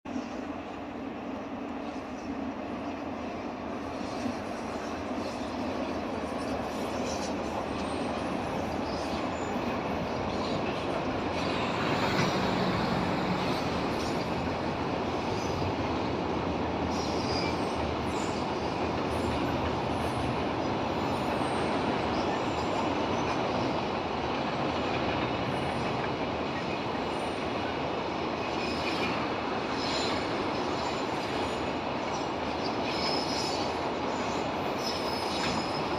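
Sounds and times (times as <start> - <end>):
train wheels rumbling on rails: 0.1 - 35.9.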